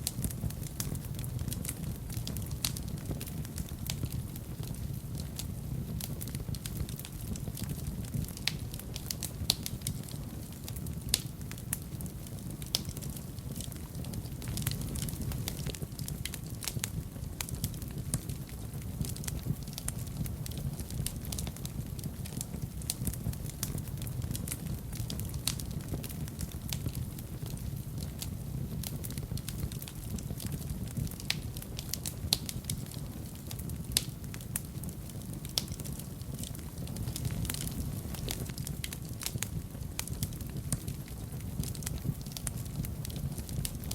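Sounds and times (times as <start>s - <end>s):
fire crackling and popping: 0.0s - 43.9s
low rumble of flames: 0.0s - 43.9s.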